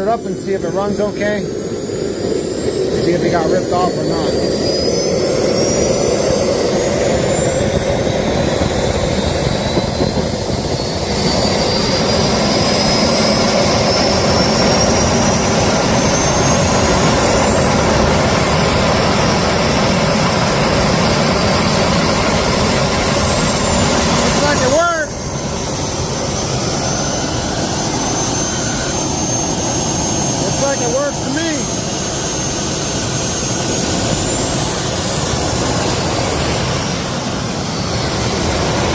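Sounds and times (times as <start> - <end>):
jet engine turbine whine: 0.0 - 38.9.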